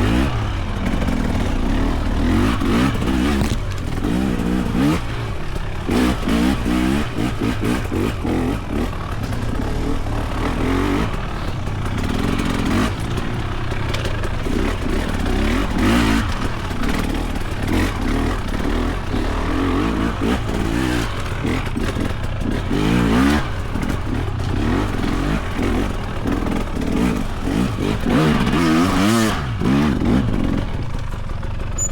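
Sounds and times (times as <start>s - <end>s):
dirt bike engine lugging: 0.1s - 19.2s, 23.4s - 31.9s.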